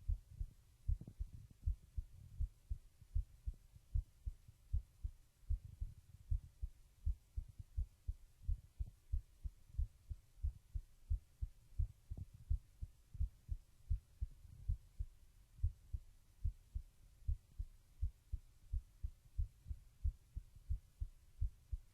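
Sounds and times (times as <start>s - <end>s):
heartbeat thumps: 0.0s - 21.9s.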